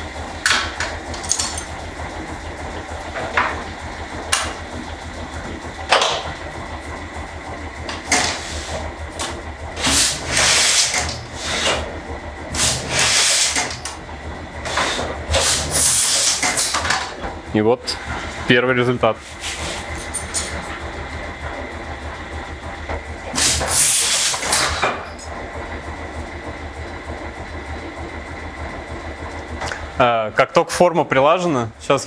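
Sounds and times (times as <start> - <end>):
printing press humming: 0.0 - 32.0.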